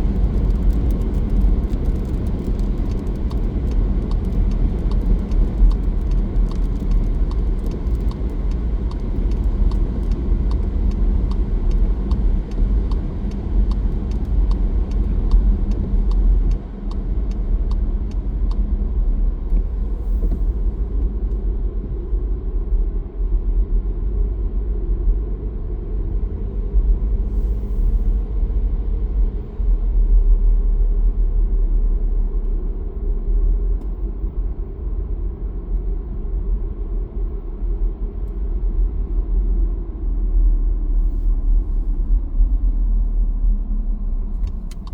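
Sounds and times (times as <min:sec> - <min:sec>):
car engine and tyres rumbling: 0:00.0 - 0:44.9.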